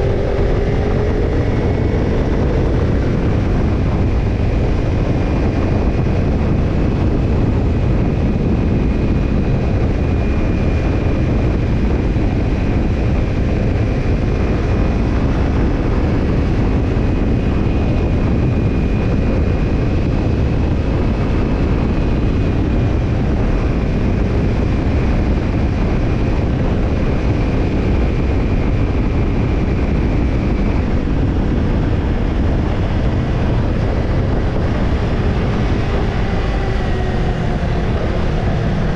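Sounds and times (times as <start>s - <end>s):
motorcycle engine while riding: 0.0s - 38.9s
road and wind noise: 0.0s - 38.9s.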